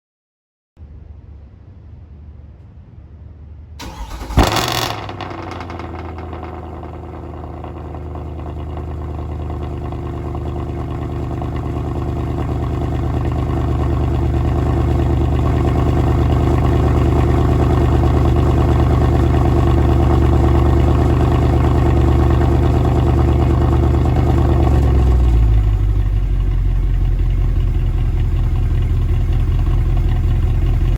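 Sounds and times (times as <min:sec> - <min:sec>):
car engine cold start and idle: 0:03.8 - 0:30.9.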